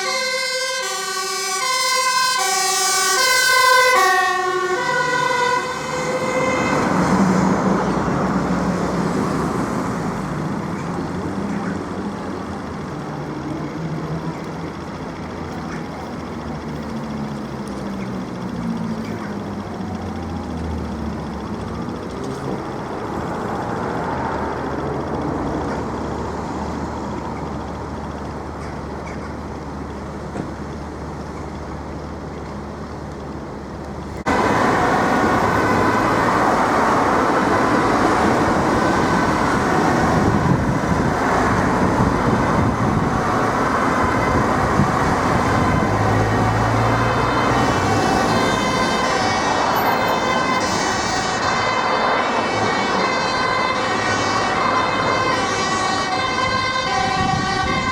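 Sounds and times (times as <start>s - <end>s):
fire engine passing: 0.0s - 57.9s
fire engine siren: 0.0s - 57.9s
road traffic: 0.0s - 57.9s.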